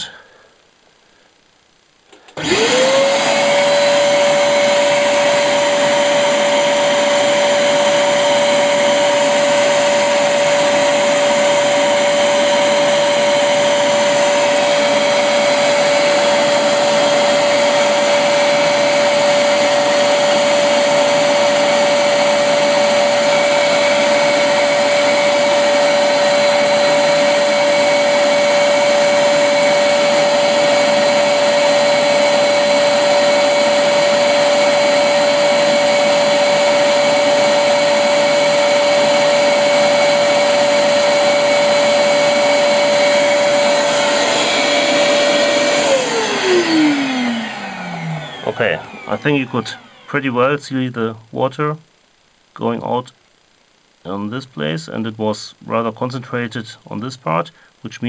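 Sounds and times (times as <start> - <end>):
vacuum cleaner motor whine: 2.1 - 50.6.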